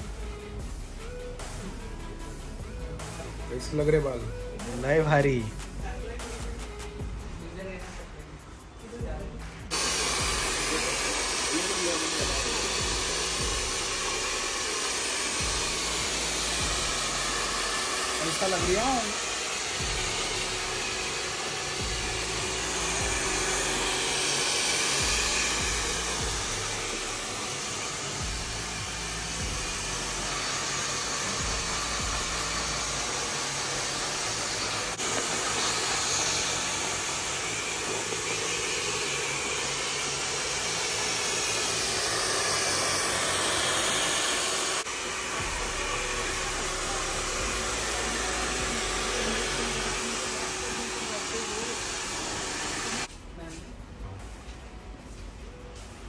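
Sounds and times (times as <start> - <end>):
hair dryer blowing: 1.0 - 8.2, 8.9 - 53.2.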